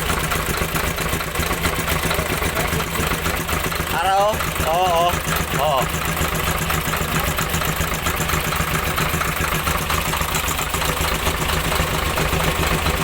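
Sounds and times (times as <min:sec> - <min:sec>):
diesel engine turning over: 0:00.0 - 0:13.0.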